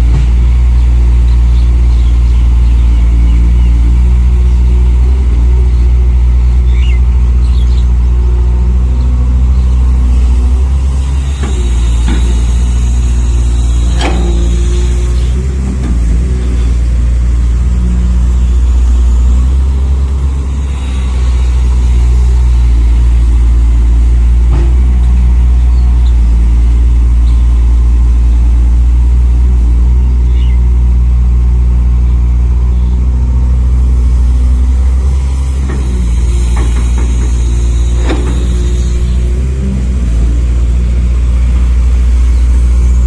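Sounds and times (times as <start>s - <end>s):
simulated truck engine running: 0.0s - 43.0s.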